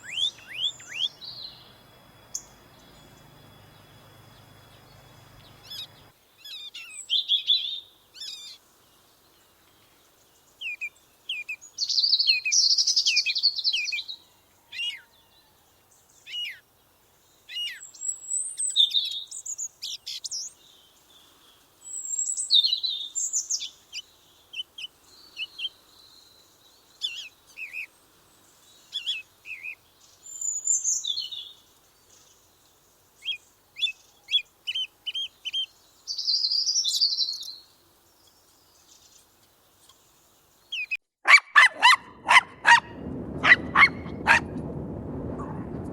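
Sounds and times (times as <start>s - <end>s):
songbirds singing and chirping: 0.0s - 41.0s.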